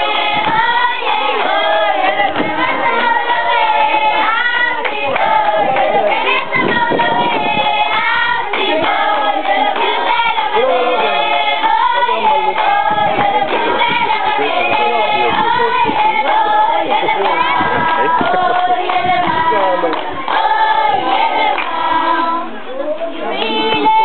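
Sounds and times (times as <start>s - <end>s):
children singing: 0.0s - 24.0s.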